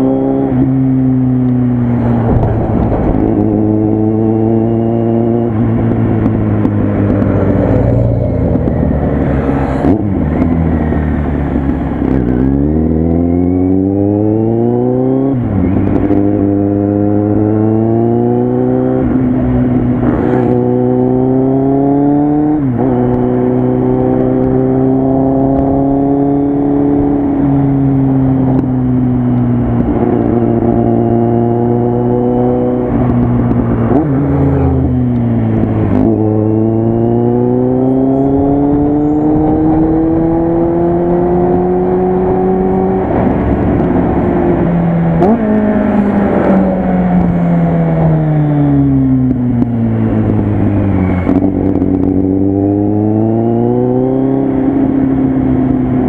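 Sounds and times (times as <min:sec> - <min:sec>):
motorcycle engine through loud exhaust: 0:00.0 - 0:56.0.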